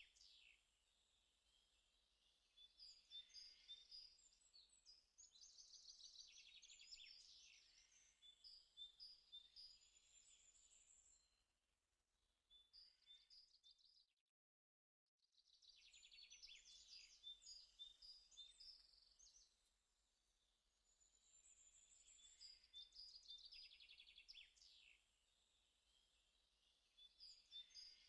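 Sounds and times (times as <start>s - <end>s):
faint birds chirping: 0.0s - 11.5s, 15.4s - 28.0s.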